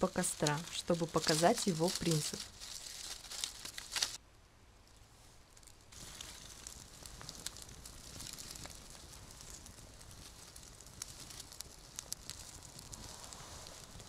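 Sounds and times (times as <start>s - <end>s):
bark and wood rustling: 0.0s - 4.2s, 4.9s - 14.0s
fire popping: 0.0s - 4.2s, 4.8s - 14.0s
campfire crackling and hissing: 0.0s - 14.0s.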